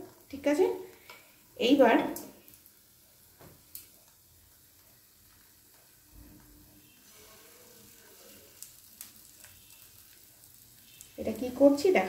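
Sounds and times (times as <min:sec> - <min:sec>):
batter sizzling in a pan: 0:00.0 - 0:12.0.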